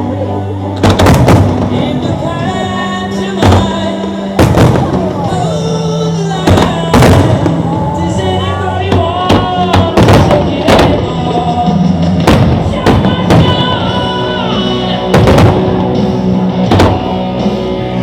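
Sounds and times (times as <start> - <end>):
firework bangs: 0.8 - 17.6
loud show music with beat: 0.8 - 18.0.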